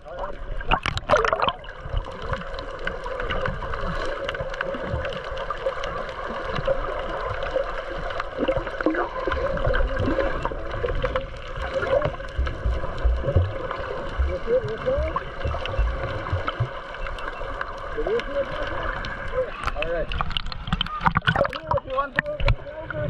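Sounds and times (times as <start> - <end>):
water gurgling underwater: 0.0 - 23.0.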